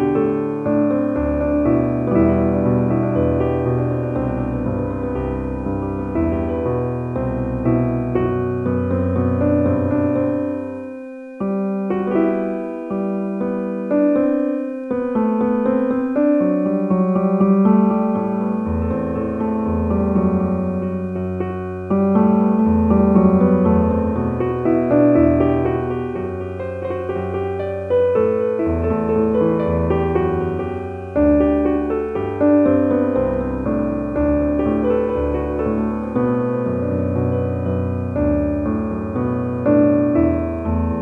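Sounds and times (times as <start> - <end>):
slow piano music: 0.0 - 41.0.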